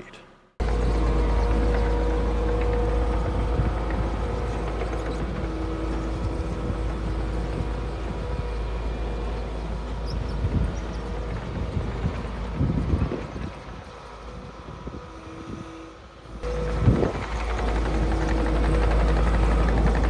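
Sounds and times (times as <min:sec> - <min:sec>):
diesel engine running under load: 0:00.6 - 0:20.0
steady machine whine: 0:00.6 - 0:20.0.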